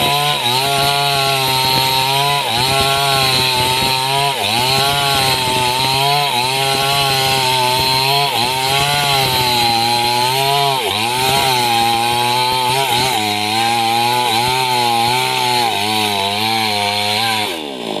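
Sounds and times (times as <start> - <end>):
chainsaw cutting timber: 0.0 - 18.0.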